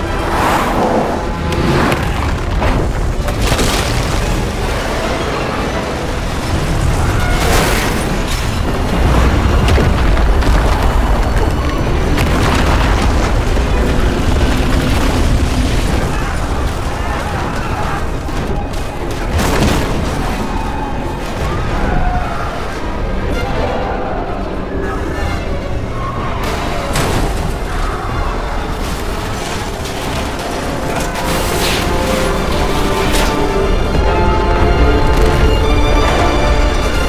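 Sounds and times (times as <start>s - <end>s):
deep continuous rumble: 0.0s - 37.0s
film music score: 0.0s - 37.0s.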